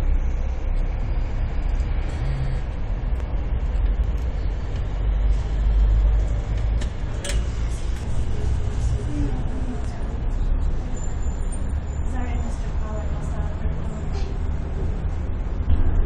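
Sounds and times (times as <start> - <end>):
aerial cabin rumbling: 0.0 - 16.0.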